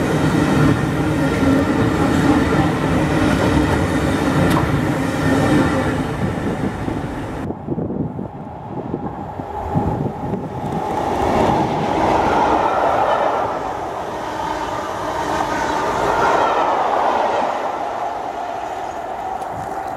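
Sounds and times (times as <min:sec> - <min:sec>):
train rumble: 0:00.0 - 0:19.9.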